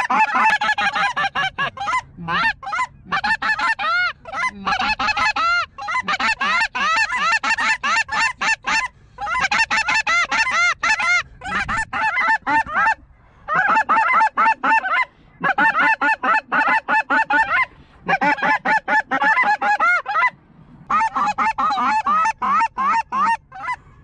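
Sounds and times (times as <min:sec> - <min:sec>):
goose call honking notes: 0:00.0 - 0:24.0.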